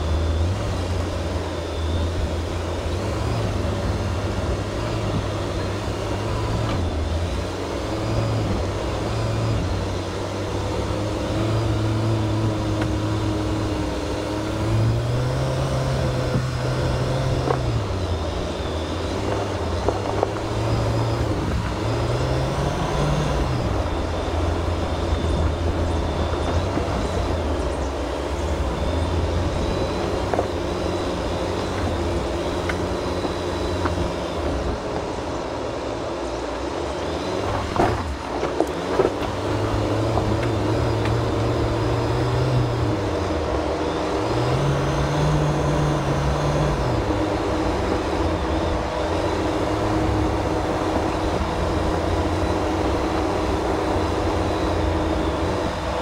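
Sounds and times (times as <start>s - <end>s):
car engine running while driving: 0.0s - 56.0s.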